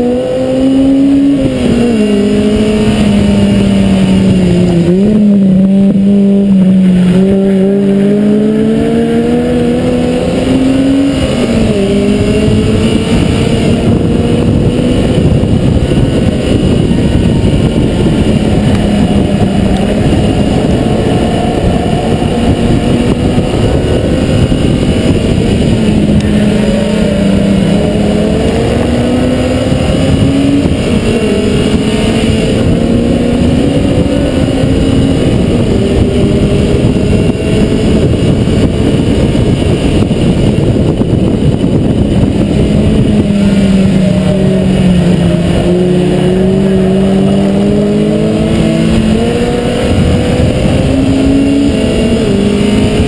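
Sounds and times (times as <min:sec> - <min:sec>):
car engine revving hard: 0:00.0 - 0:53.0
wind and road noise: 0:00.0 - 0:53.0.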